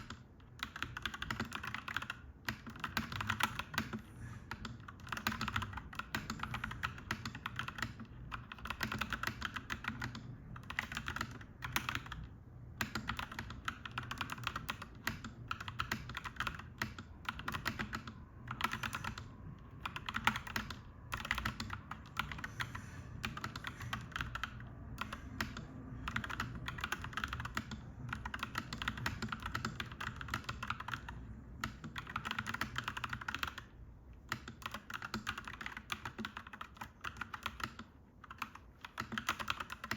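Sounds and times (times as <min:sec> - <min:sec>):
low background hum: 0:00.0 - 0:39.9
mechanical keyboard typing: 0:00.0 - 0:39.9.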